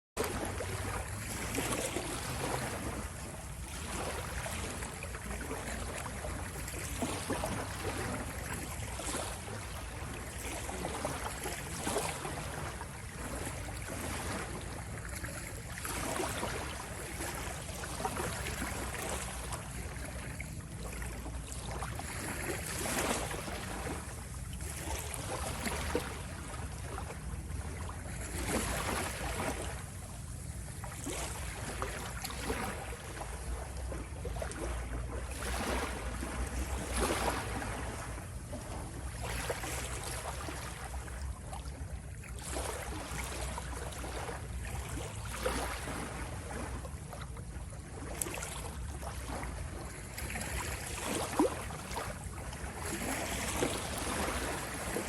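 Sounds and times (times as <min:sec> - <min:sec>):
sea waves washing in: 0:00.2 - 0:55.0.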